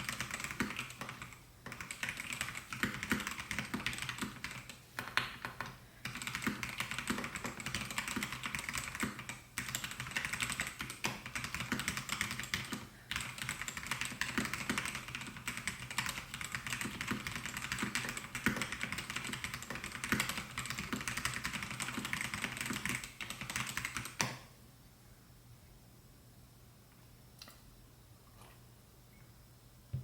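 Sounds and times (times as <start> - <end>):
mechanical keyboard typing: 0.0 - 24.4.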